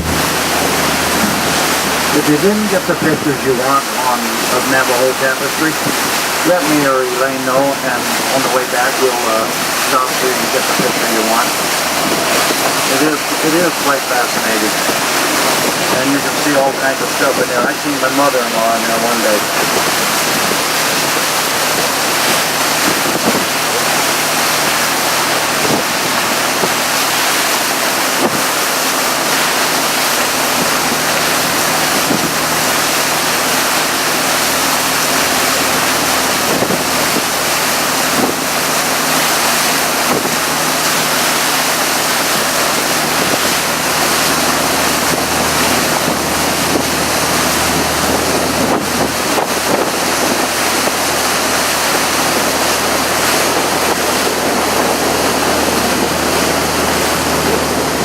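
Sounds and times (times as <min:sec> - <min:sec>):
wind noise on microphone: 0:00.0 - 0:04.8, 0:09.6 - 0:58.0
boat engine drone: 0:00.0 - 0:58.0
water rushing: 0:00.0 - 0:58.0.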